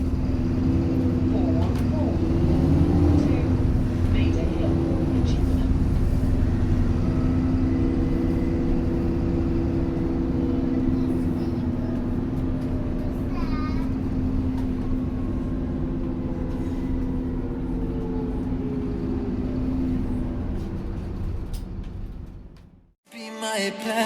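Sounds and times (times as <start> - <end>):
bus engine running: 0.0 - 23.0.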